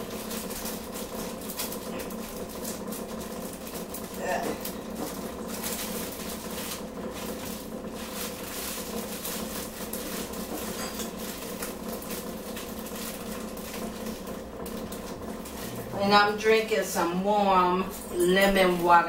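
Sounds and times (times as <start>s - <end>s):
kitchenware rustling and clattering: 0.0s - 19.0s
steady hum: 0.0s - 19.0s.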